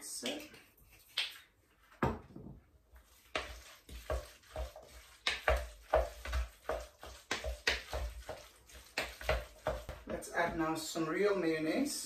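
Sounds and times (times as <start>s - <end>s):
wet squelching stirring: 0.0s - 2.0s, 2.8s - 11.0s.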